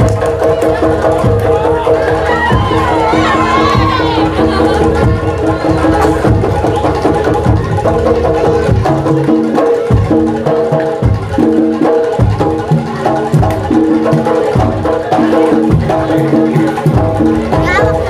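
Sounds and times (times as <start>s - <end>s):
drums and tuned percussion music: 0.0s - 18.0s.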